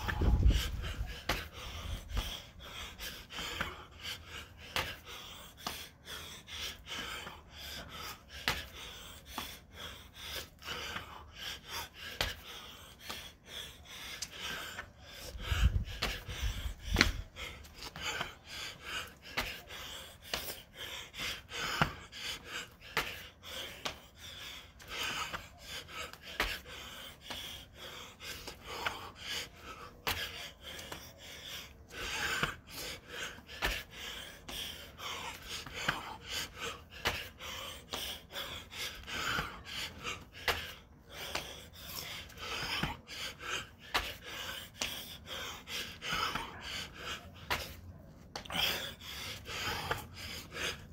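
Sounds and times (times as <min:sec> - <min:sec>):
man breathing hard and gasping: 0:00.0 - 0:50.9.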